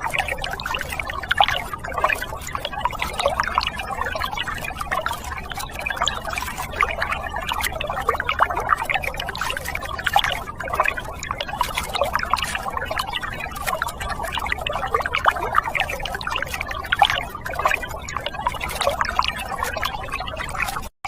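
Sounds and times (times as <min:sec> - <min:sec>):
water pouring and splashing: 0:00.0 - 0:20.9.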